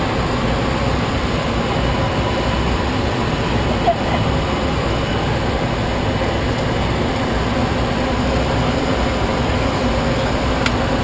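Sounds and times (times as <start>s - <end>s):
jet cockpit air and engine rush: 0.0s - 11.0s.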